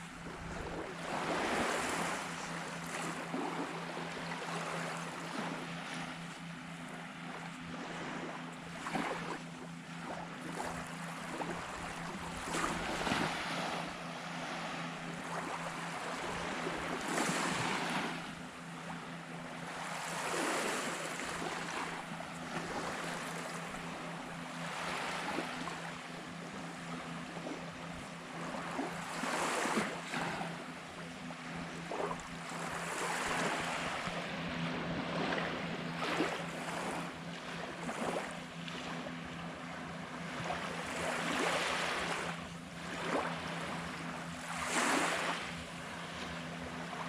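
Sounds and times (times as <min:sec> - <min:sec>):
surf waves washing on sand: 0:00.0 - 0:06.4, 0:10.1 - 0:18.3, 0:19.7 - 0:27.7, 0:28.3 - 0:30.5, 0:31.7 - 0:47.0
steady low hum: 0:00.0 - 0:47.0.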